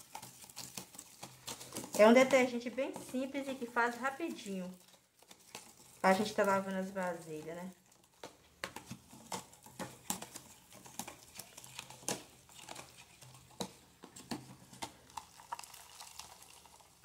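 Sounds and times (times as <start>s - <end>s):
metal spoon scraping plastic tub: 0.0s - 15.6s.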